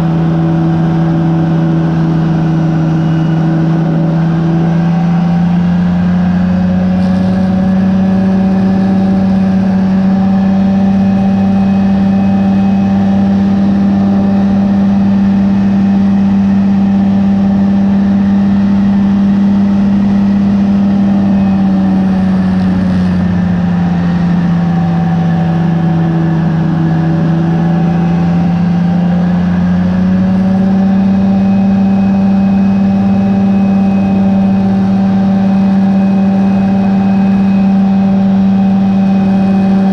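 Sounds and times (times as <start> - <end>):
two-stroke aircraft engine running: 0.0 - 39.9.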